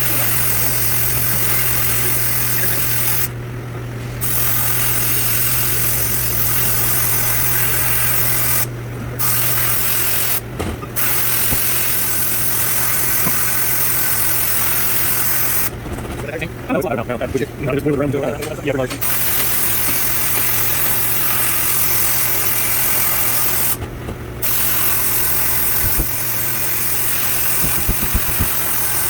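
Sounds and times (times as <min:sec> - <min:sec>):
sandblasting air hiss: 0:00.0 - 0:03.3, 0:04.2 - 0:10.4, 0:11.0 - 0:15.7, 0:19.0 - 0:23.8, 0:24.4 - 0:29.0
machinery humming: 0:00.0 - 0:29.0.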